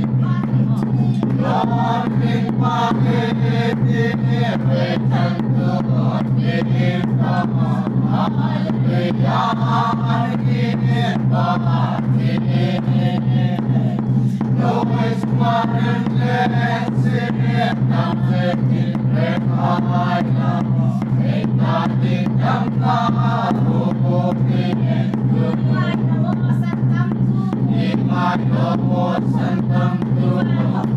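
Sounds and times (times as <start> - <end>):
congregation singing a hymn: 0.0 - 25.8, 27.6 - 30.9
sharp rhythmic strikes: 0.0 - 30.9.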